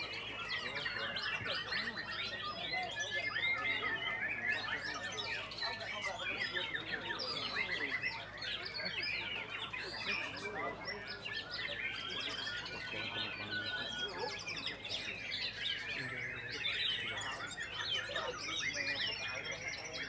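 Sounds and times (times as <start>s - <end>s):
bird singing chirps and trills: 0.0s - 20.0s
other birds calling: 0.0s - 20.0s.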